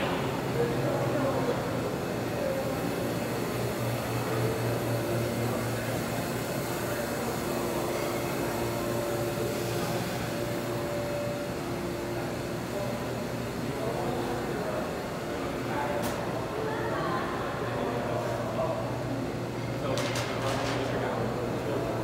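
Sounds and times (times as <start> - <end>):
mechanical hum and air noise: 0.0 - 22.0.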